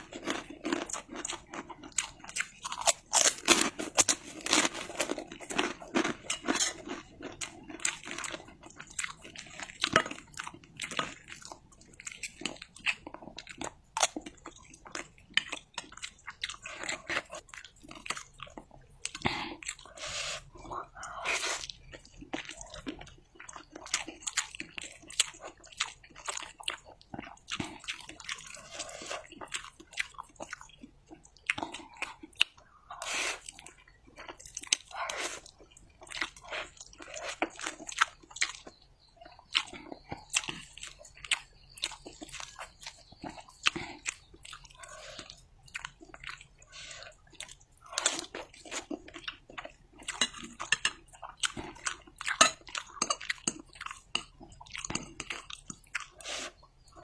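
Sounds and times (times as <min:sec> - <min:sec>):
person chewing and crunching: 0:00.0 - 0:57.0.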